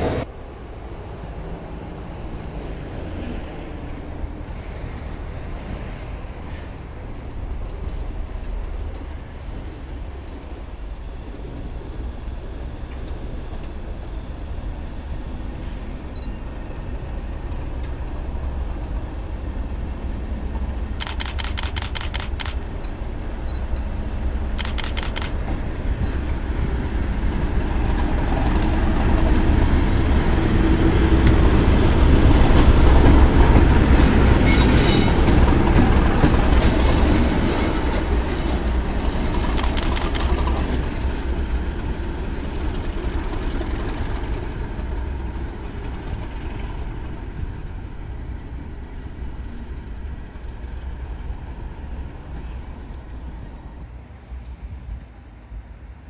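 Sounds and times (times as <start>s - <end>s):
diesel locomotive rumbling past: 0.0s - 56.0s.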